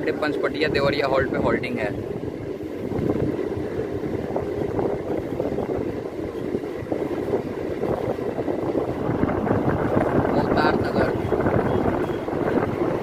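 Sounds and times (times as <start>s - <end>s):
train wheels rumbling on rail: 0.0s - 13.0s
wind on microphone: 0.0s - 13.0s.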